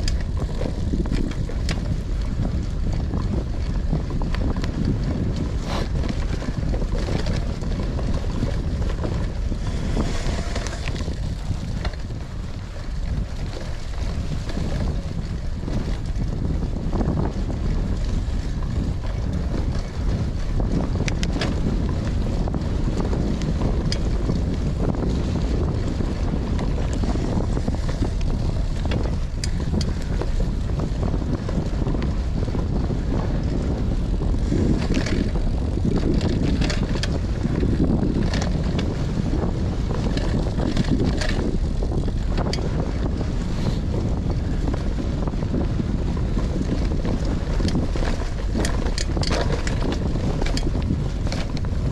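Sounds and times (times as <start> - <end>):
bike clicks and rattles: 0.0 - 51.9
bike tyres rolling on dirt: 0.0 - 51.9
wind buffeting microphone: 0.0 - 51.9.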